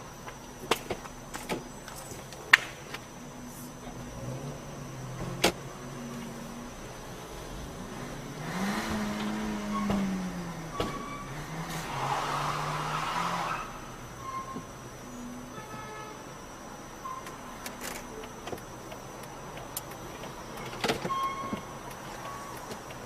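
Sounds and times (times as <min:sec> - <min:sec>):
car engine running: 0:00.0 - 0:23.0
road traffic noise: 0:00.0 - 0:23.0.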